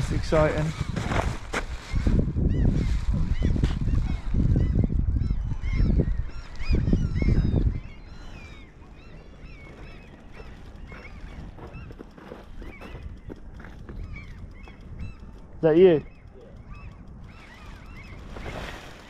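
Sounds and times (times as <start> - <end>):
wind rumble on microphone: 0.0 - 19.0
flock of birds calling: 1.9 - 19.0.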